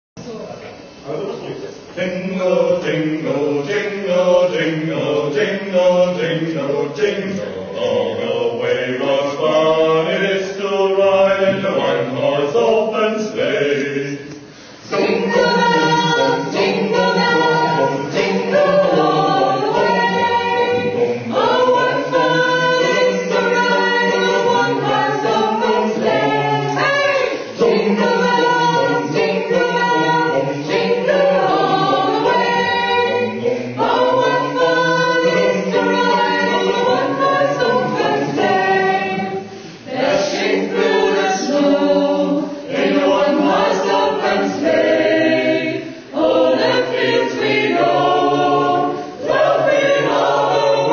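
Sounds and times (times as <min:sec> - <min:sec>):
choir singing a cappella: 0:01.8 - 0:50.9.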